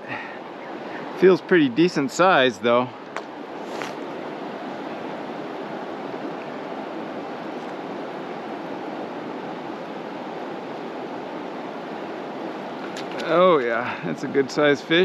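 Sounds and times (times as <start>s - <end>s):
river flowing over rocks: 0.0s - 13.8s.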